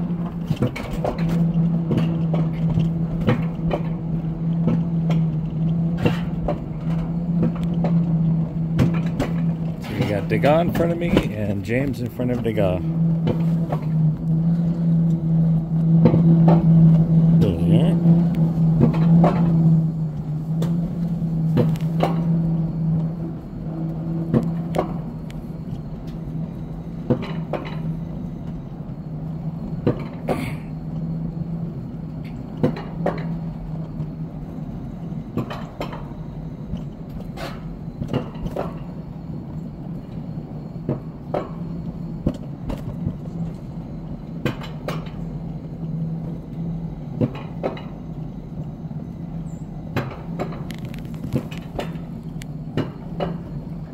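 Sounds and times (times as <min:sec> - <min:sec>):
low mechanical hum: 0:00.0 - 0:53.9
sled and track clicks and clunks: 0:00.0 - 0:53.9.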